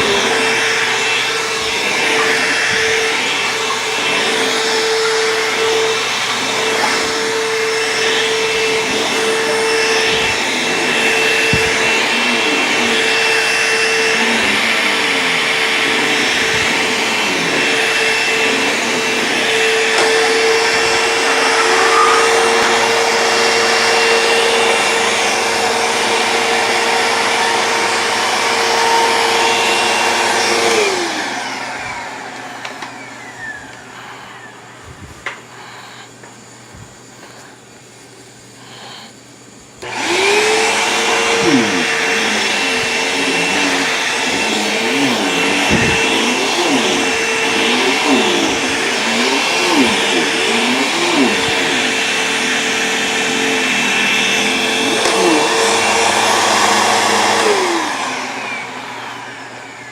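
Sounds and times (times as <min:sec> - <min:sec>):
vacuum cleaner running: 0:00.0 - 0:59.9
vacuum motor winding down: 0:00.0 - 0:59.9.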